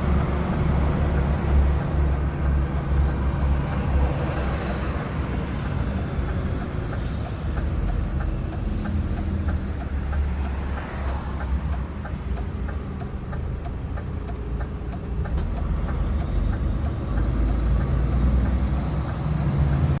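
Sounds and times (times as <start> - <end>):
light even ticking: 0.0 - 20.0
truck diesel engine drone: 0.0 - 20.0.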